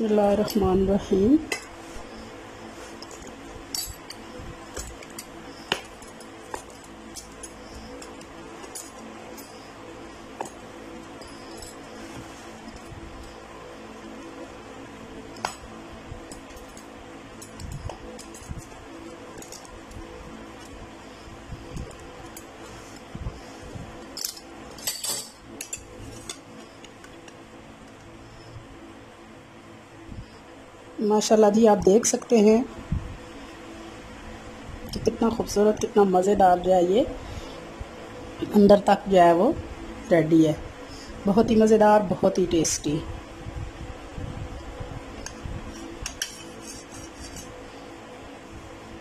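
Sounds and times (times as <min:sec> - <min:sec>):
soft background music: 0:00.0 - 0:46.0.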